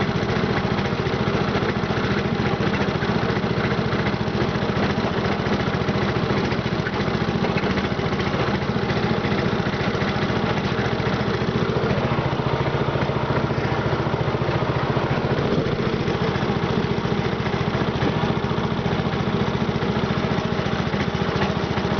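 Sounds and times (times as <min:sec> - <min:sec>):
lawn mower engine running: 0:00.0 - 0:21.9.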